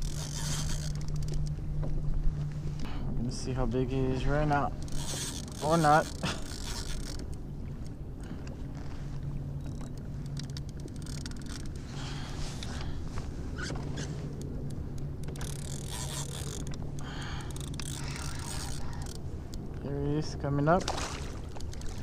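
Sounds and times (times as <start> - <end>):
fishing reel gear whir: 0.0 - 2.5, 3.6 - 7.9, 9.5 - 20.3, 21.2 - 22.0
low continuous hum: 0.0 - 22.0.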